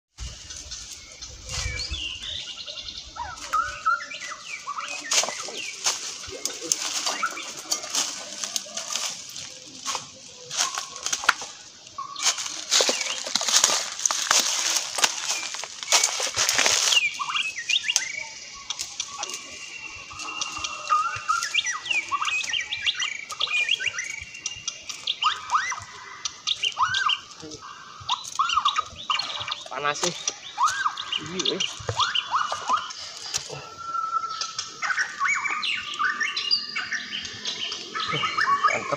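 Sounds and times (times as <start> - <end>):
birds chirping: 0.1 - 38.9
dry leaves crunching underfoot: 0.2 - 38.9.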